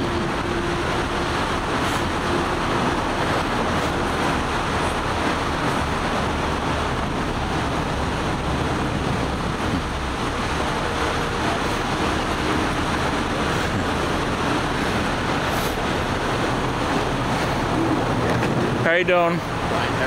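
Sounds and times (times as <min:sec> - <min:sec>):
idling emergency vehicles: 0:00.0 - 0:20.0
road traffic rumble: 0:00.0 - 0:20.0.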